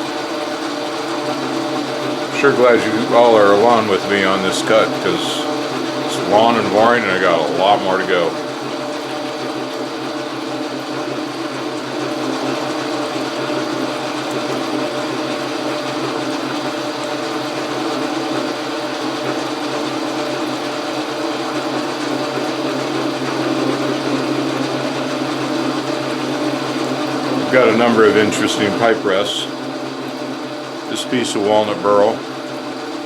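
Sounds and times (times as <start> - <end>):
metal lathe running: 0.1 - 16.6, 22.7 - 33.0.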